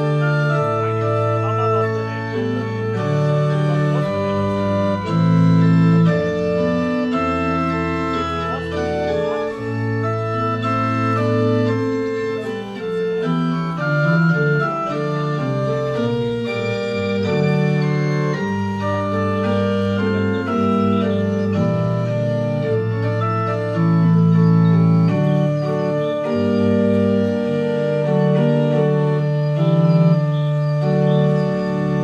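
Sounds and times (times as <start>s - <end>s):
electronic organ playing: 0.0s - 32.0s.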